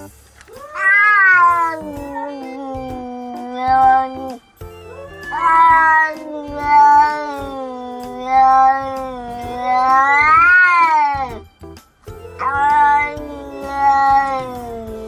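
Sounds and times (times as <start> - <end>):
cat yowling: 0.5 - 11.4, 12.4 - 15.0.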